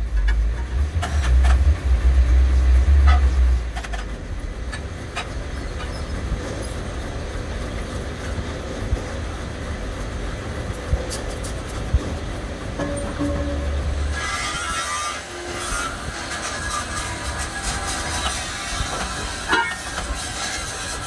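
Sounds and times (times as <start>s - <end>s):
low workshop rumble: 0.0s - 7.8s, 8.6s - 21.0s.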